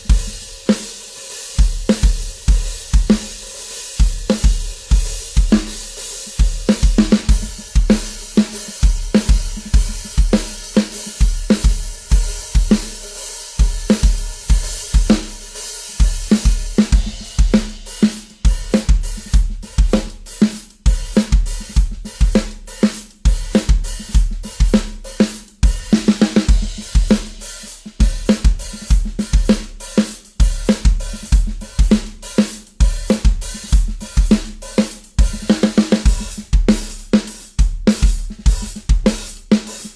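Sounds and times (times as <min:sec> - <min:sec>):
drum-heavy music over loudspeakers: 0:01.6 - 0:39.9.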